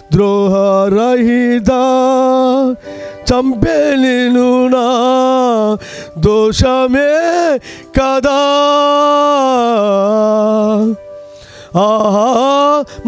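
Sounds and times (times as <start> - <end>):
man singing a hymn: 0.0 - 13.0.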